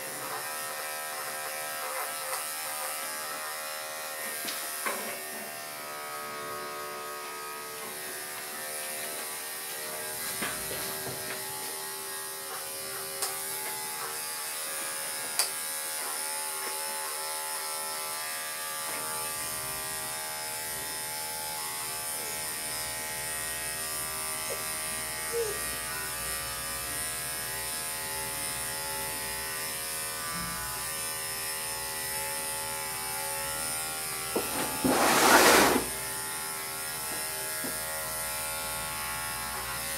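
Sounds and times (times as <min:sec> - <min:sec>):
electric clippers buzzing: 0:00.0 - 0:39.9.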